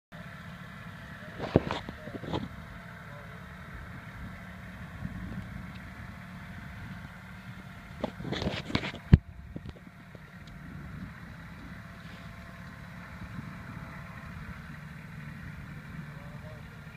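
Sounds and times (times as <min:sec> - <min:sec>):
tractor engine running: 0:00.1 - 0:16.9.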